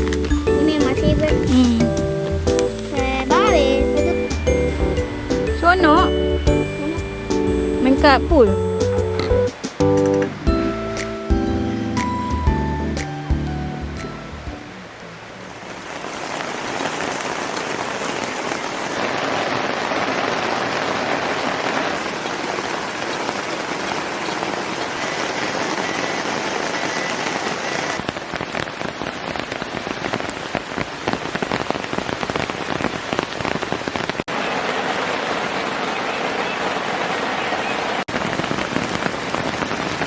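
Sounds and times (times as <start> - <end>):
heavy rain: 0.0 - 40.0
raindrops striking close by: 0.0 - 40.0.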